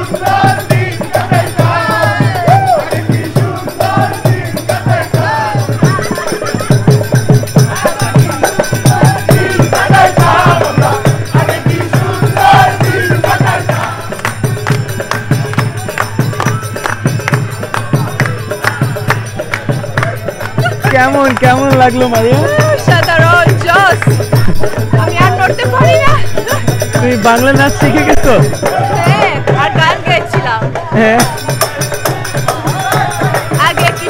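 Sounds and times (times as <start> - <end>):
voices singing: 0.0 - 20.8, 22.2 - 34.0
fast percussion beat: 0.0 - 34.0.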